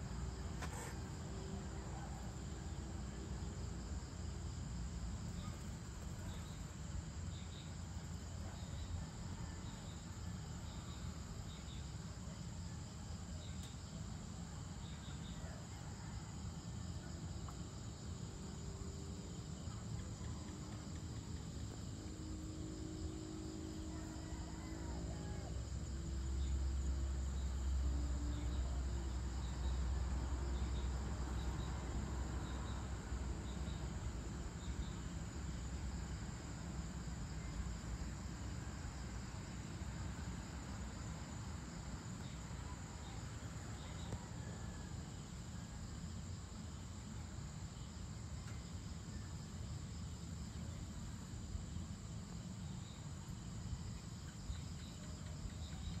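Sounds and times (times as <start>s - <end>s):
crickets and insects trilling: 0.0s - 56.0s.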